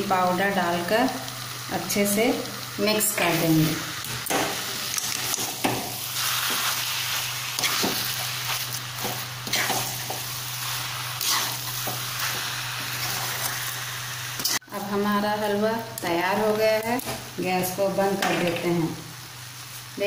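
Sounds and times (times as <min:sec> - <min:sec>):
steady sizzling hiss: 0:00.0 - 0:20.0.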